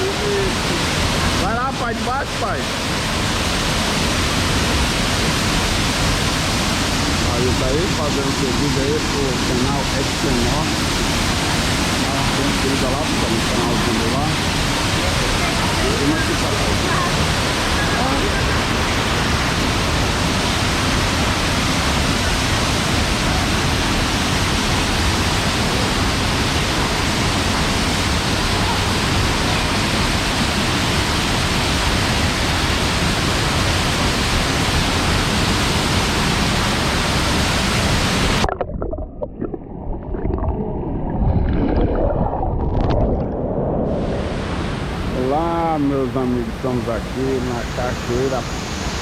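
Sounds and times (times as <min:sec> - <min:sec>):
waterfall rushing: 0:00.0 - 0:38.6, 0:44.0 - 0:49.0.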